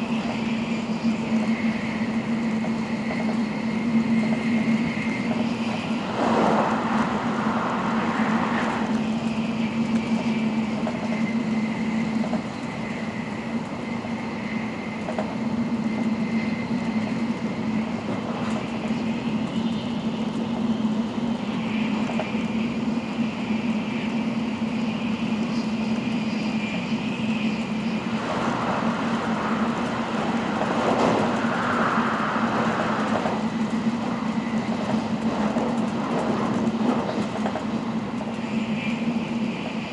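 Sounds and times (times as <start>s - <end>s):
high-speed train running: 0.0s - 39.9s.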